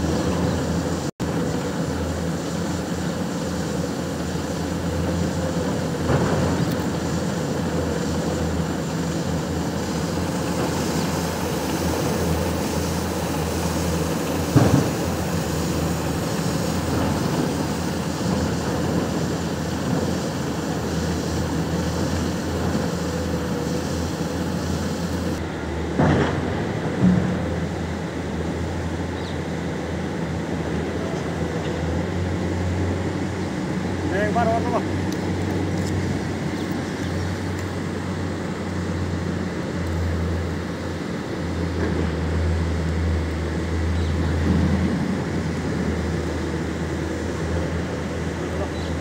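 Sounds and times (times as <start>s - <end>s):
heavy diesel machinery drone: 0.0s - 49.0s.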